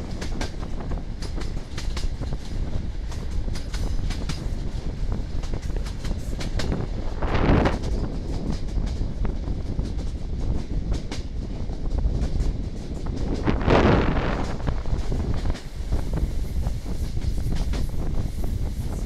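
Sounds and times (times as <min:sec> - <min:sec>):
train rumble: 0:00.0 - 0:19.0
train wheels clattering over rail joints: 0:00.0 - 0:19.0.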